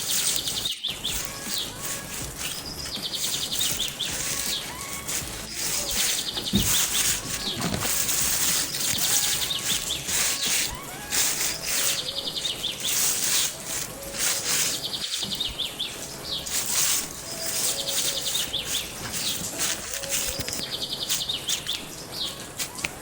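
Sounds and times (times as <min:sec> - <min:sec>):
birds chirping and trilling: 0:00.0 - 0:23.0
steady hiss: 0:00.0 - 0:23.0.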